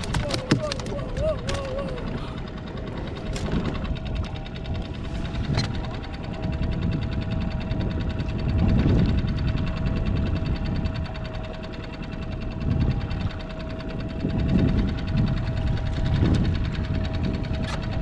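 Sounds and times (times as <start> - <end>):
low rumbling: 0.0 - 18.0
small boat motor humming: 0.0 - 18.0.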